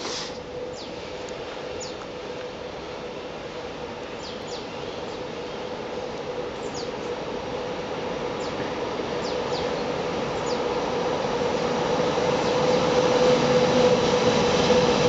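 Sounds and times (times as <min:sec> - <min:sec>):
train hum and rumble: 0:00.0 - 0:15.0.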